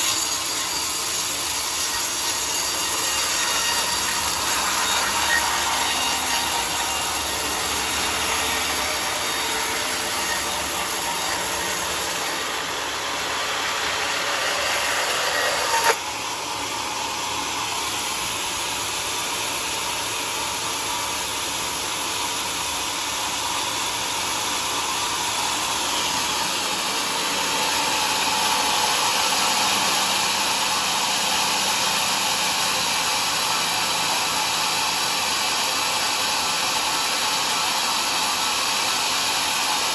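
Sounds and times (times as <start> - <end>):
saw blade cutting wood: 0.0 - 39.9.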